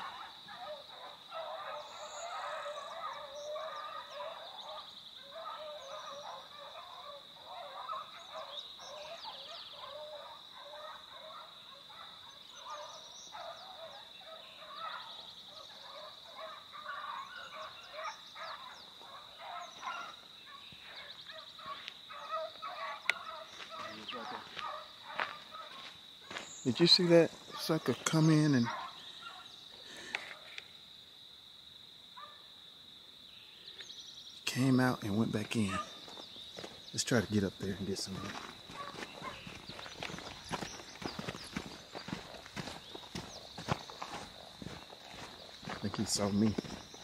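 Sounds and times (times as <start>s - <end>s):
pack of dogs baying: 0.0s - 26.4s, 27.0s - 29.6s, 35.6s - 36.7s, 37.8s - 47.0s
high insect drone: 0.0s - 47.0s.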